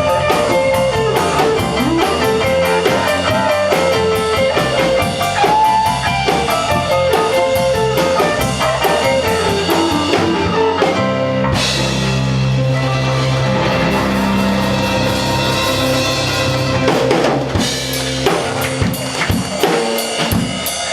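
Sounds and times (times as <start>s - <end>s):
rock band playing: 0.0s - 20.9s.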